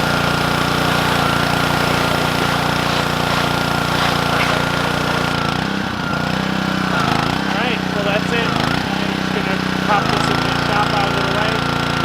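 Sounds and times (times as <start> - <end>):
constant high whine: 0.0 - 12.0
small engine running: 0.0 - 12.0.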